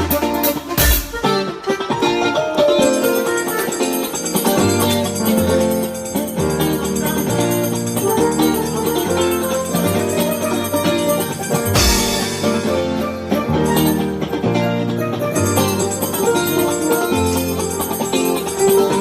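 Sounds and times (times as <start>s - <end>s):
live band playing instrumental music: 0.0s - 19.0s.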